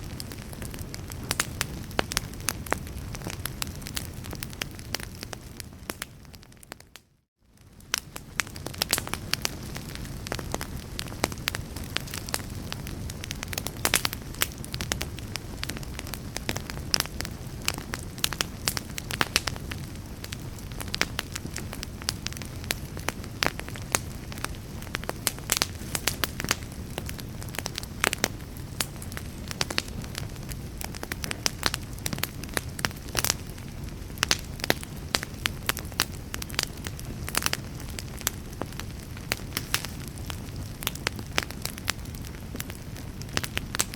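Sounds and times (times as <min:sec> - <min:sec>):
low rumble of flames: 0:00.0 - 0:43.9.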